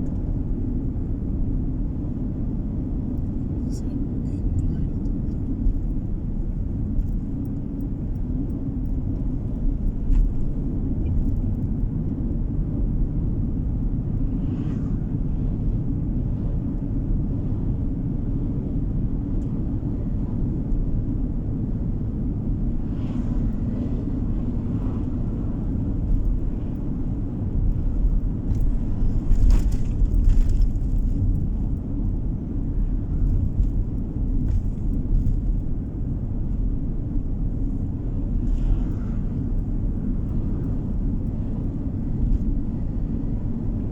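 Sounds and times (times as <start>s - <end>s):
engine and tyre rumble: 0.0s - 43.9s.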